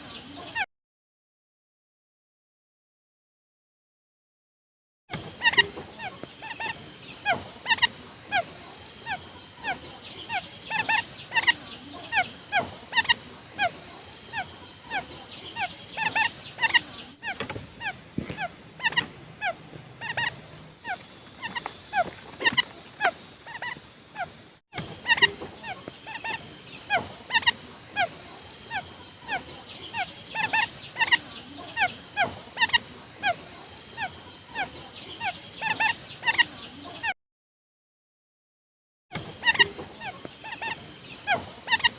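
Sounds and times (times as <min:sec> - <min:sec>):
quail calling: 0:05.2 - 0:37.1, 0:39.2 - 0:41.9.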